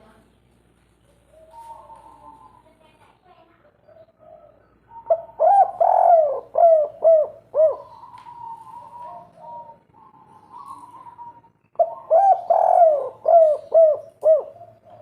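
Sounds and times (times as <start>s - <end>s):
dove cooing: 1.1s - 3.0s, 3.6s - 15.0s.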